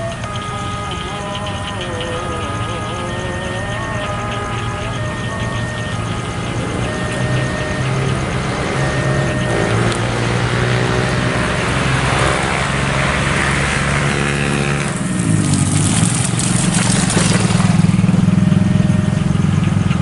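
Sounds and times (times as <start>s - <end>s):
locomotive engine running: 0.0s - 20.0s.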